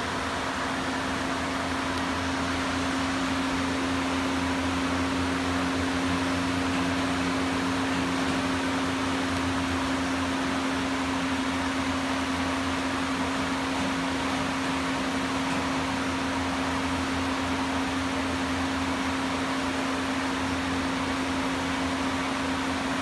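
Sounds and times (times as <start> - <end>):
constant hiss: 0.0 - 23.0
machine humming: 0.0 - 23.0.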